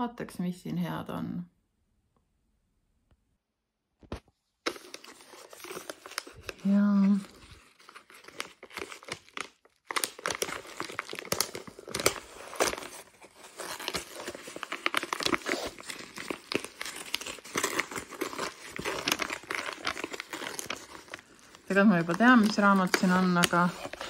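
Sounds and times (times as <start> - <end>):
paper envelope tearing and crinkling: 4.6 - 24.0.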